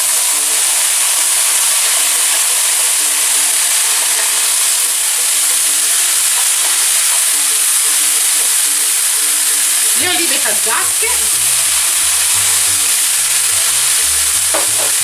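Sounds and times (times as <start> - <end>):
peppers sizzling in a pan: 0.0 - 15.0.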